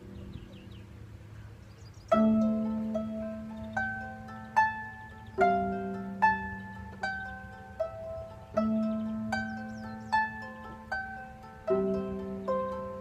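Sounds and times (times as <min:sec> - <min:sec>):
solo harp playing: 0:00.0 - 0:13.0.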